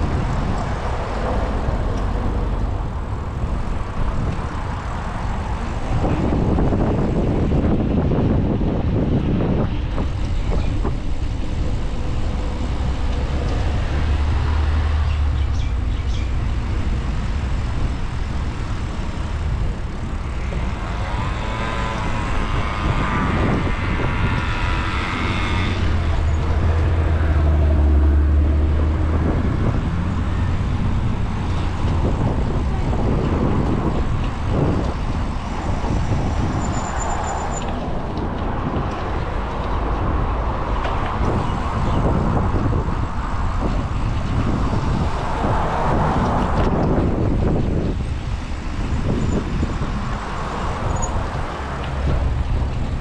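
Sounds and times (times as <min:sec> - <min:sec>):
heavy vehicle rumble: 0:00.0 - 0:53.0
road traffic passing: 0:00.0 - 0:53.0.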